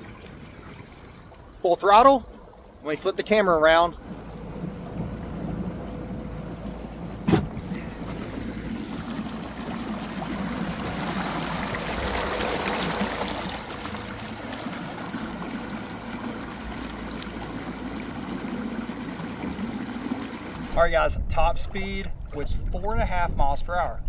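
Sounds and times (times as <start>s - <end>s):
water rushing and splashing: 0.0s - 23.4s.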